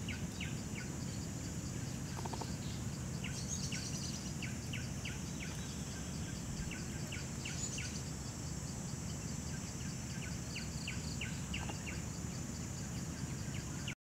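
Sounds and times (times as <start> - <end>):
low steady rumble: 0.0 - 13.9
pulsing insect drone: 0.0 - 14.0.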